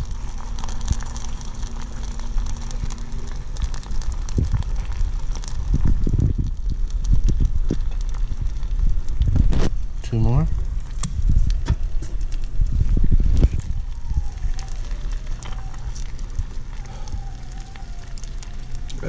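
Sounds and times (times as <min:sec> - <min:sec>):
faint steady hum: 0:00.0 - 0:19.0
gum sizzling and popping in pan: 0:00.0 - 0:19.0.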